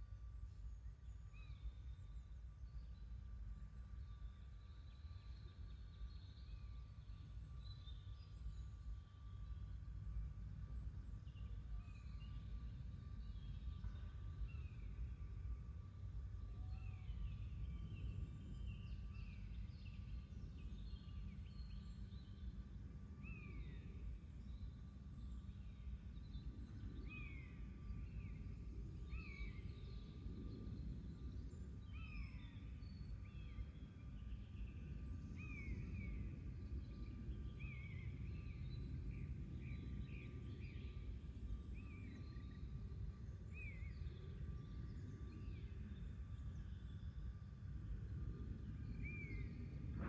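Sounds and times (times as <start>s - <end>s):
low outdoor rumble: 8.6s - 50.0s.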